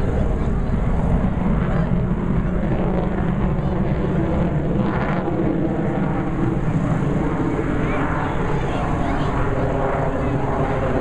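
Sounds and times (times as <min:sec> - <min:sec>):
aircraft engine rumble overhead: 0:00.0 - 0:11.0.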